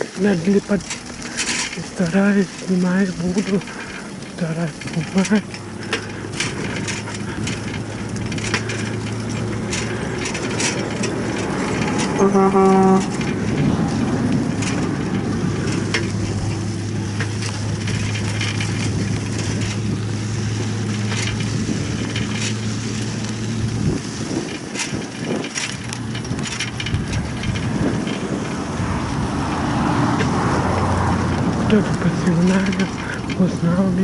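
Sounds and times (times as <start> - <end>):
crackles and clicks: 0.0 - 34.0
low engine drone: 0.0 - 34.0
road rumbling noise: 0.0 - 34.0.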